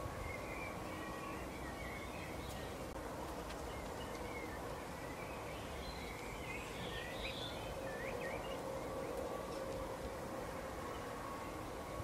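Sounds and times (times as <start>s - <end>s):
outdoor background hum: 0.0s - 12.0s.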